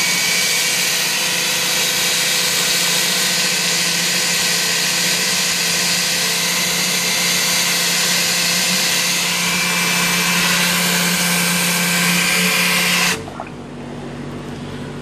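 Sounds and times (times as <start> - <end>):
electric drill running: 0.0 - 13.2.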